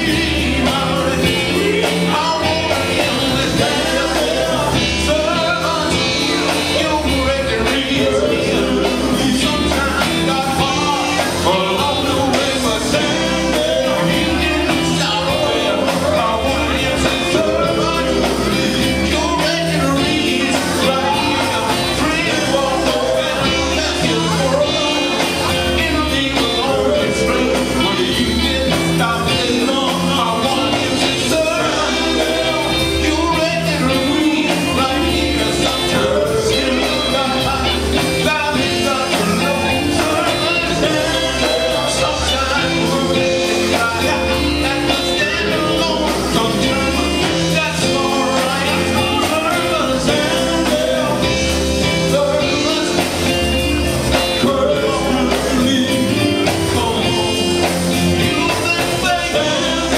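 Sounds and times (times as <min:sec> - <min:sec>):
band playing steady beat: 0:00.0 - 0:59.9
gospel quartet singing: 0:00.0 - 0:59.9.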